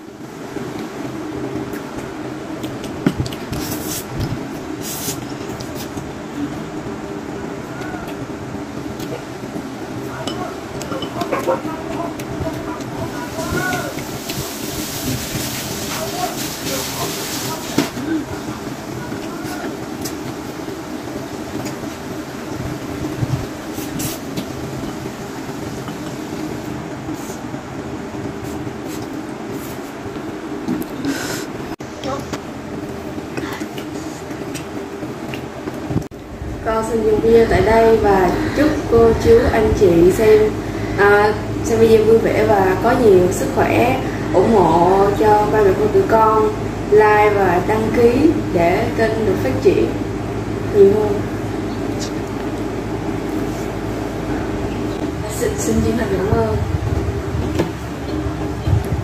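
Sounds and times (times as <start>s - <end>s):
background hum: 0.0s - 59.0s
low mechanical rumble: 0.0s - 59.0s.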